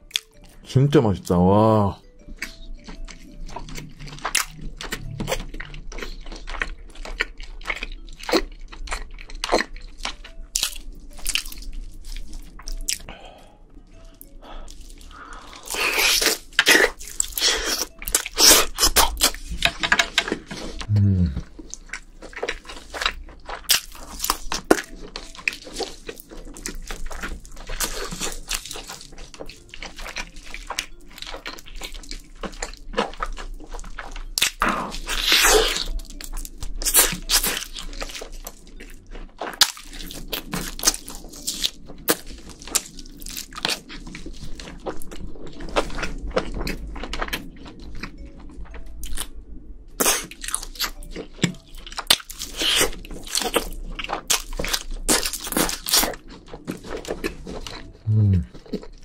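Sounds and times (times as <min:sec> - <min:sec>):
wet chewing: 0:00.0 - 0:00.6, 0:02.0 - 0:59.0
crisp crunches of biting: 0:02.4 - 0:13.1, 0:14.7 - 0:19.4, 0:20.8 - 0:48.2, 0:50.0 - 0:59.0.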